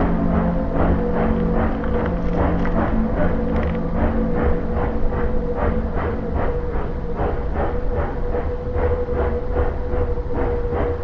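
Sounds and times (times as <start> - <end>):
steady train rumble: 0.0 - 11.0.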